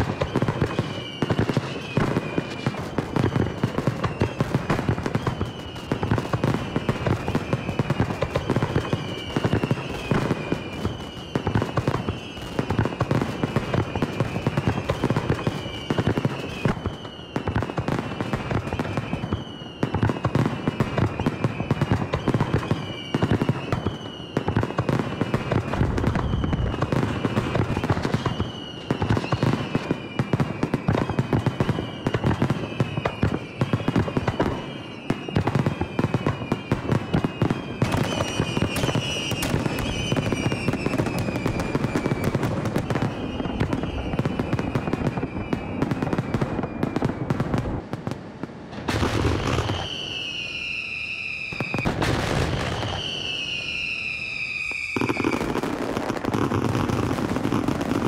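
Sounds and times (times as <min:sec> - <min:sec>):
firework whistles: 0:00.0 - 0:47.8, 0:48.8 - 0:58.0
fireworks bursting: 0:00.0 - 0:58.0.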